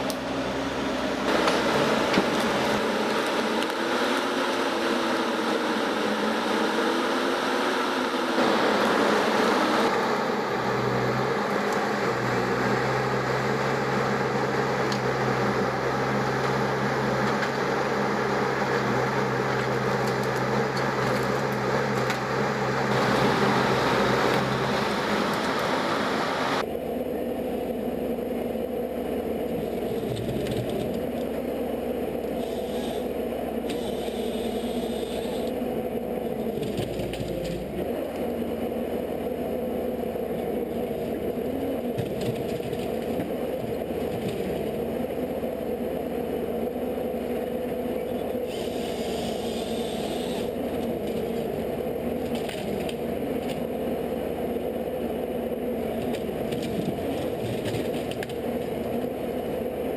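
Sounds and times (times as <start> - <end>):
machine motor running: 0.0 - 27.0, 28.5 - 59.9.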